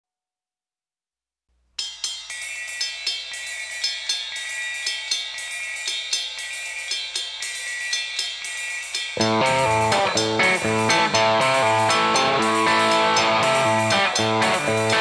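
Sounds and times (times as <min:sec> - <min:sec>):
drum kit hi-hat and cymbals: 0:01.8 - 0:15.0
high ringing tone: 0:01.8 - 0:15.0.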